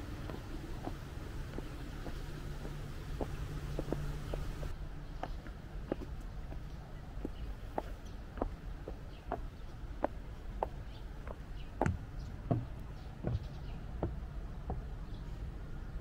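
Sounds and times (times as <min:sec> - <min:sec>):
footsteps on hard paths: 0:00.0 - 0:15.3
footsteps on wooden footbridge: 0:00.0 - 0:16.0.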